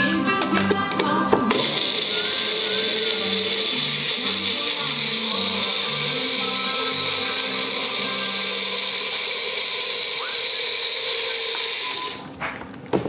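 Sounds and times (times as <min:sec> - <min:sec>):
electric blender running: 0:01.5 - 0:12.4.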